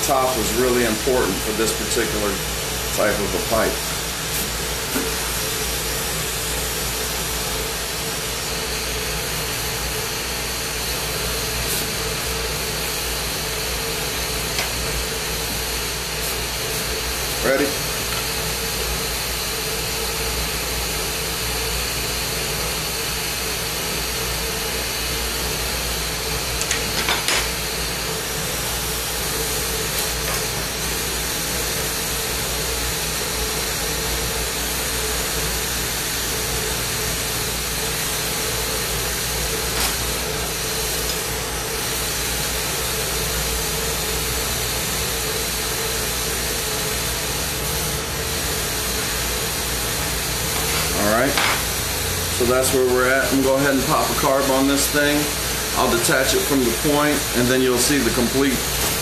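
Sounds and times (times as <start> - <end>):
torch flame hissing: 0.0 - 59.0.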